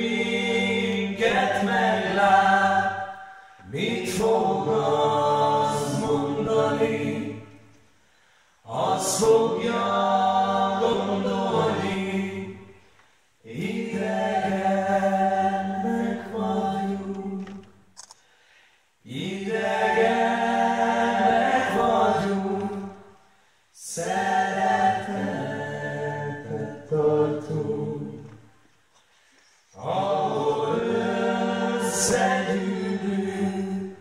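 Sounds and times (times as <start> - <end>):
group singing folk song a cappella: 0.0 - 34.0.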